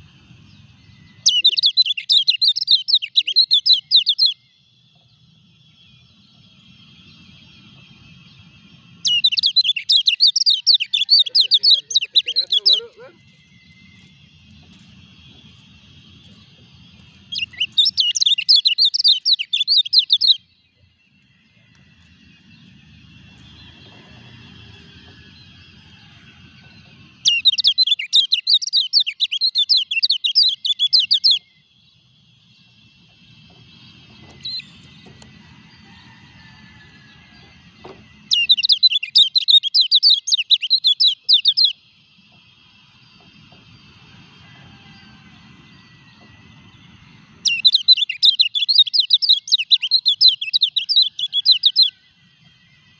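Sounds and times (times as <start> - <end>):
bird twittering song: 0.0 - 36.3, 36.9 - 52.9.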